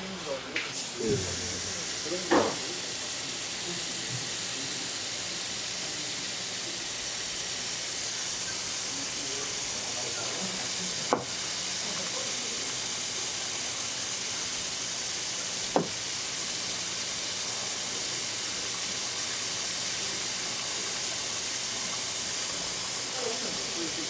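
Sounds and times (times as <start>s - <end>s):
tap water running: 0.7s - 24.0s.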